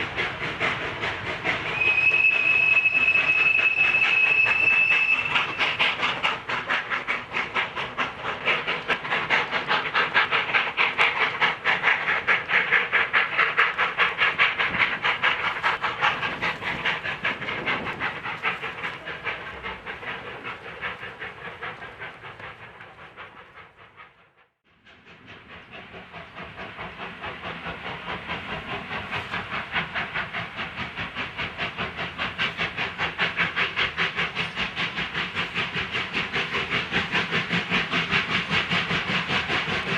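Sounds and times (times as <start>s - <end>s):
steam hiss: 0.0s - 24.2s, 24.8s - 39.9s
steam locomotive exhaust beats: 0.0s - 39.9s.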